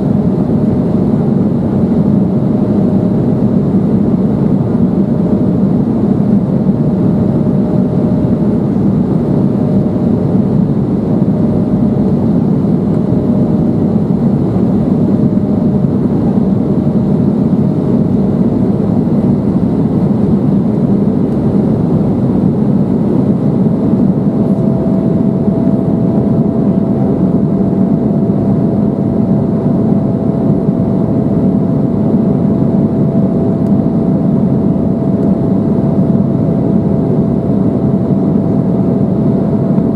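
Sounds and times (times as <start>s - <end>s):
jet engines and airflow rushing: 0.0s - 39.9s
thin engine whine: 0.0s - 39.9s.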